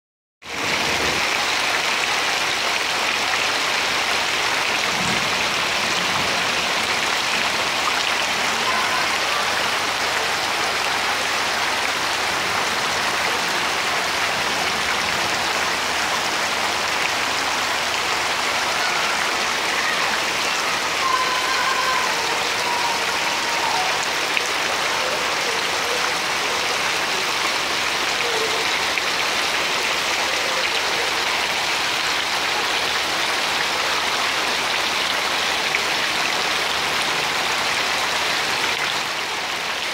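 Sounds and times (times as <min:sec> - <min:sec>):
heavy rain on standing water: 0:00.4 - 0:39.9.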